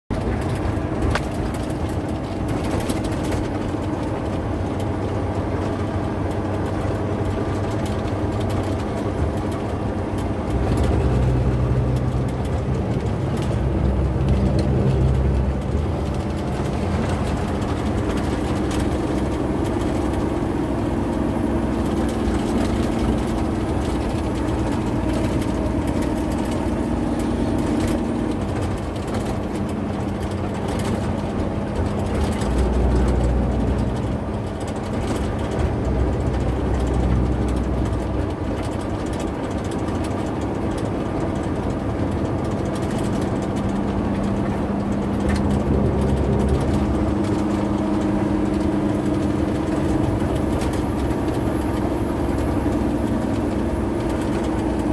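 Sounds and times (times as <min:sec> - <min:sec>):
truck engine droning: 0:00.0 - 0:54.9
small rattles and clicks: 0:00.1 - 0:54.9.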